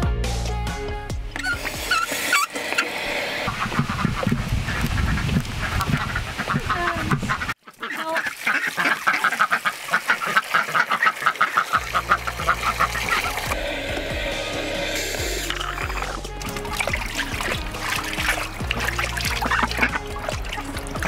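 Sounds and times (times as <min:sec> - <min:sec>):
ducks quacking: 0:03.4 - 0:21.0.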